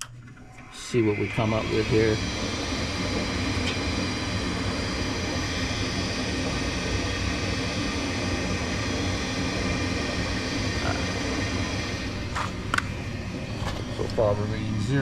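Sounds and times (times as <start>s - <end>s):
furnace fan motor humming: 0.0s - 15.0s.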